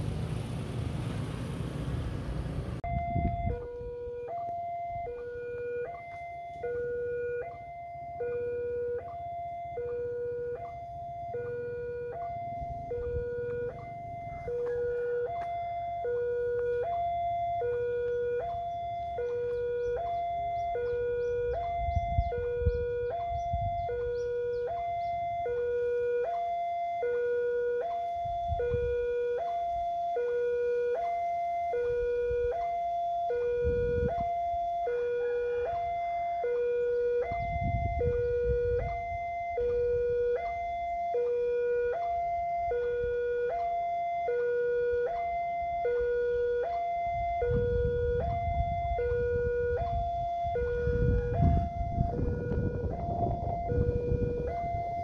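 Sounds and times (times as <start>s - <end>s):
level crossing two-tone alarm: 2.8s - 55.0s.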